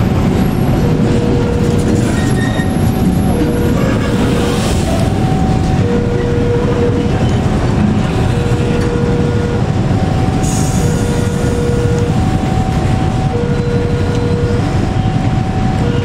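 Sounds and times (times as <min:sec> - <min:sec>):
train wagons rumbling: 0:00.0 - 0:16.0
two-tone warning signal: 0:00.2 - 0:16.0.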